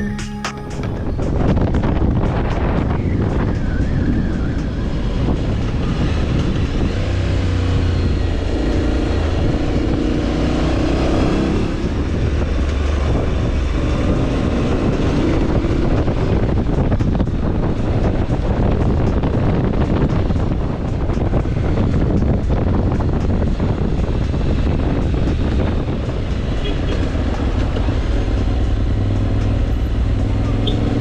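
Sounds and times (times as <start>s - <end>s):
motorcycle engine running: 4.5s - 31.0s.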